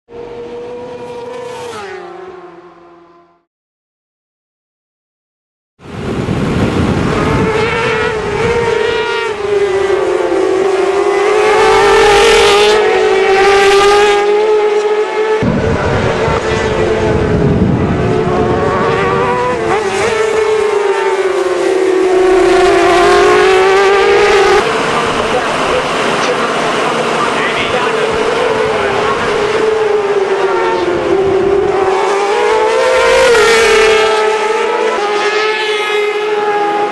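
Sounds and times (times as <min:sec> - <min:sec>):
sport bike engines at high revs: 0:00.1 - 0:03.5, 0:05.9 - 0:36.9.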